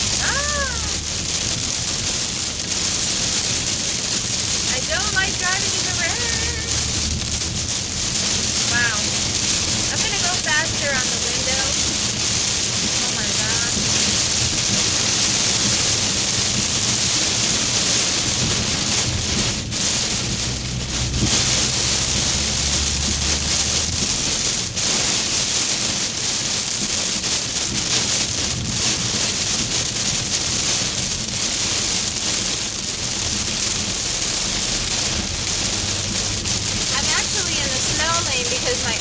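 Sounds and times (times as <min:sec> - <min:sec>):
car tyres rumbling on wet road: 0:00.0 - 0:39.0
heavy rain on car roof: 0:00.0 - 0:39.0.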